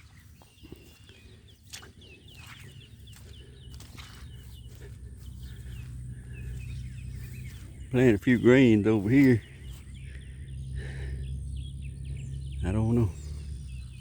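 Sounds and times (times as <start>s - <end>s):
birds chirping: 0.0s - 14.0s
low rumble: 0.0s - 14.0s.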